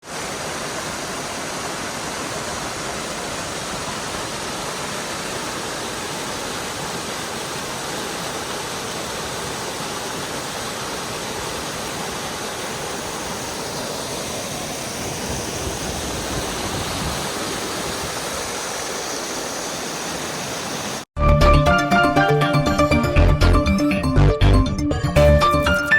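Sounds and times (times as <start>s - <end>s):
stream rushing over rocks: 0.0s - 21.1s.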